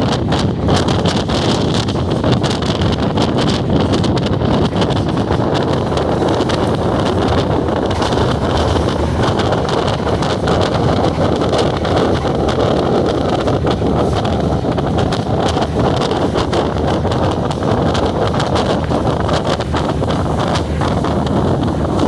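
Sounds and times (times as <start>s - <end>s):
moving train rumble: 0.0s - 22.0s
wind buffeting microphone: 0.0s - 22.0s.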